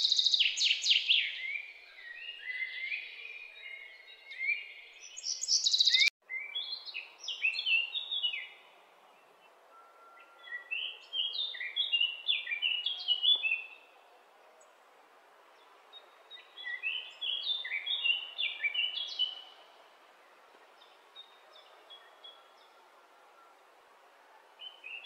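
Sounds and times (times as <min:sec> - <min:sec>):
birds chirping: 0:00.0 - 0:25.0
faint outdoor hiss: 0:00.0 - 0:25.0.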